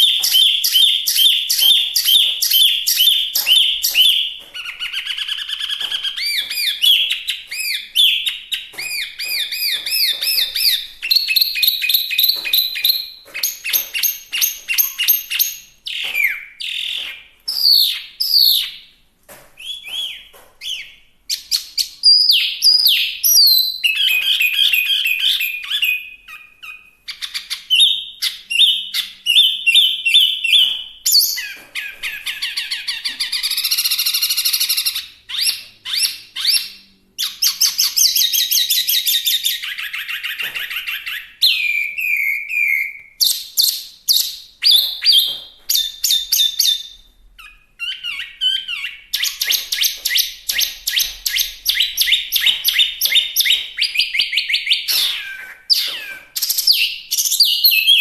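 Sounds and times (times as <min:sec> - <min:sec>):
bird singing trills and whistles: 0:00.0 - 0:18.9, 0:19.6 - 0:58.0.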